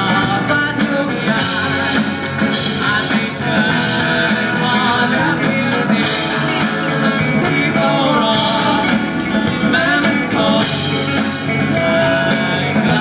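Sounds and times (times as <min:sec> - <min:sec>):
amplified guitars: 0:00.0 - 0:13.0
person singing: 0:00.0 - 0:13.0
steady beat: 0:00.0 - 0:13.0.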